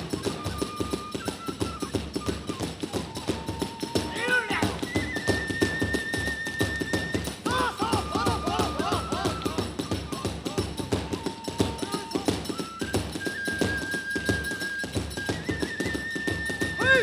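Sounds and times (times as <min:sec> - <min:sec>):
bamboo flute high notes: 0:00.0 - 0:17.0
drums and hand cymbals beating: 0:00.0 - 0:17.0.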